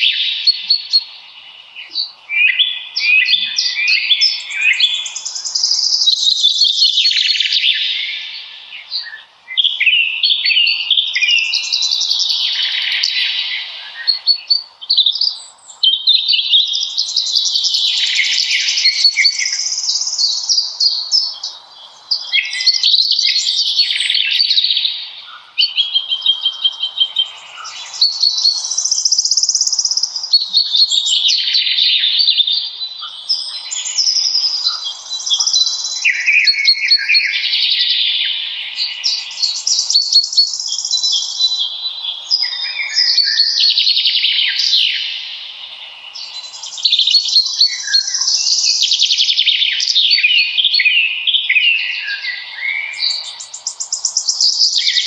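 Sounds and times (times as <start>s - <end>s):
faint background hiss: 0.0s - 55.0s
songbirds chirping and trilling: 0.0s - 55.0s.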